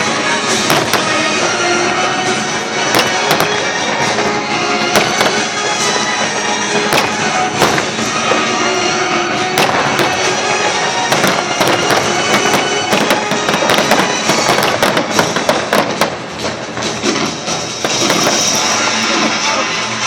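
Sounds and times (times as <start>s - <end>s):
fireworks bangs and crackles: 0.0s - 20.0s
loud music: 0.0s - 20.0s.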